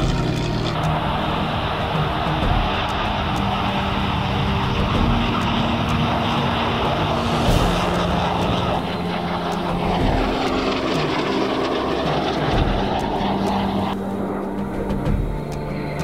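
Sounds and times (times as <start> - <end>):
airplane engine drone: 0.0 - 16.0.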